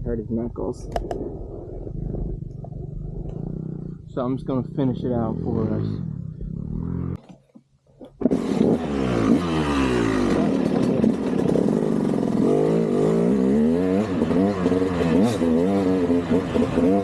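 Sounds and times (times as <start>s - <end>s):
dirt bike engine revving: 1.3s - 7.2s, 8.2s - 17.0s.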